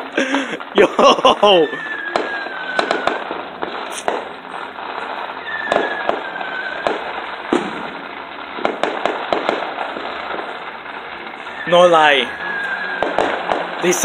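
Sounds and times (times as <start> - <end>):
firework crackle: 0.0 - 14.0
firework whistle screeching: 0.0 - 14.0
firework pops: 1.8 - 14.0.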